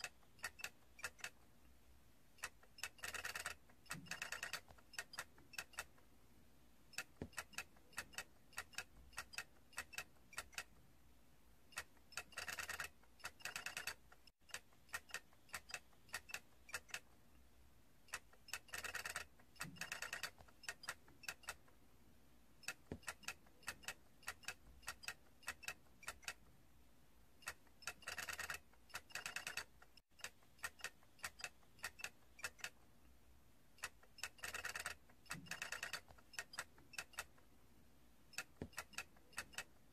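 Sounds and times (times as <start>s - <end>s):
plastic toy figures clicking: 0.0s - 1.4s, 2.4s - 6.0s, 6.9s - 10.8s, 11.7s - 17.2s, 18.1s - 21.7s, 22.6s - 26.5s, 27.4s - 32.8s, 33.8s - 37.4s, 38.3s - 39.8s.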